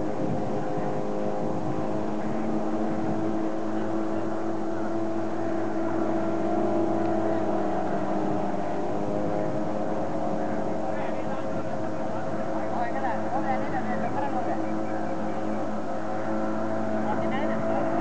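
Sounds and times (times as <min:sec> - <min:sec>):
ferry engine humming: 0:00.0 - 0:18.0.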